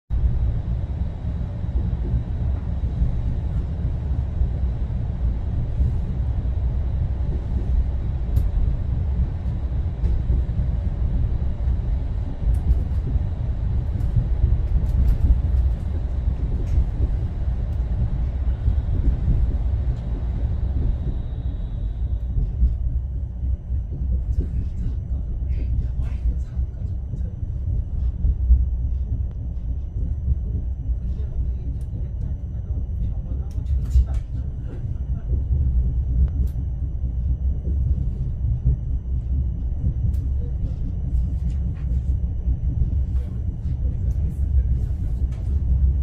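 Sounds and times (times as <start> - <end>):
train rumbling inside carriage: 0.1 - 46.0.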